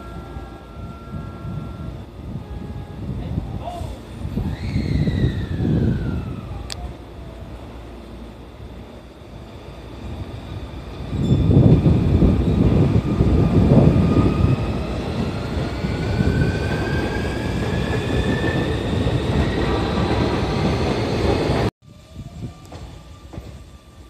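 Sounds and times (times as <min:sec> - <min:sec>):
train wheel rumble: 0:00.0 - 0:24.0.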